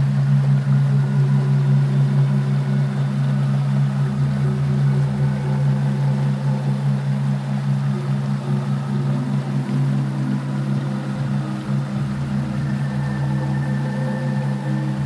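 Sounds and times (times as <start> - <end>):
pulsing low droning hum: 0.0 - 15.0.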